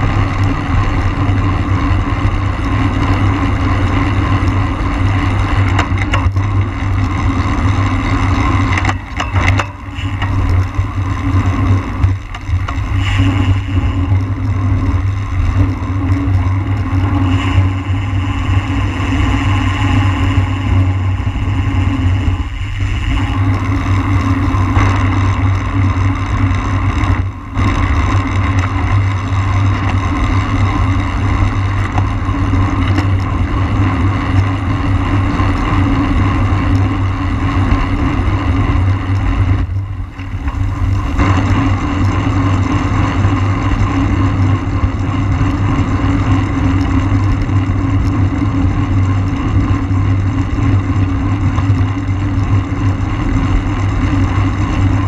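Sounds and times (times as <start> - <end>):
constant hum: 0.0 - 55.0
wind rushing over microphone: 0.0 - 55.0.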